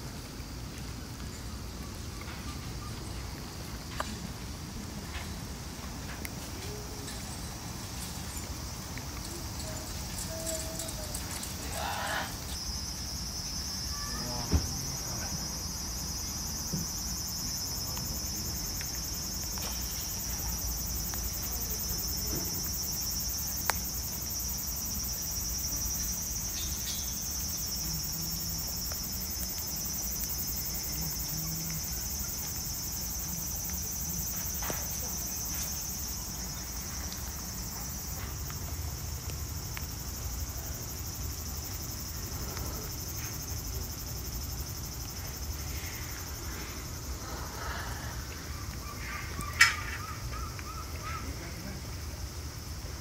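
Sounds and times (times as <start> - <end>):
insects buzzing: 0.0 - 53.0.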